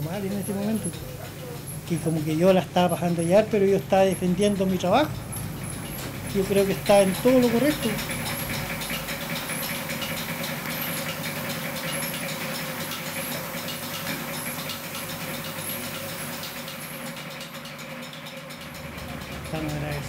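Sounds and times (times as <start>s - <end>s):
machine humming and hissing: 0.0s - 17.6s.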